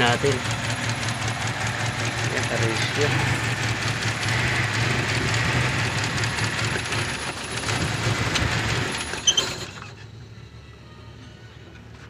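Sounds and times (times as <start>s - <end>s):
engine idling roughly and misfiring: 0.0s - 10.0s.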